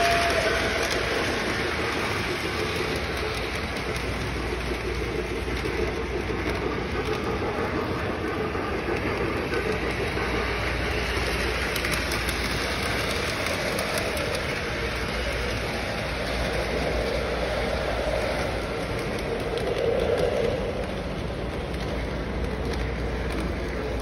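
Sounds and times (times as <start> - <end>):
model trains rolling on track: 0.0 - 24.0.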